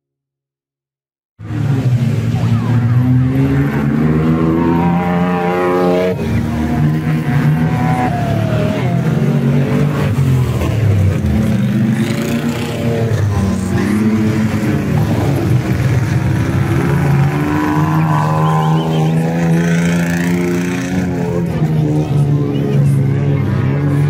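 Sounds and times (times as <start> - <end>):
off-road engines revving: 1.4 - 24.0.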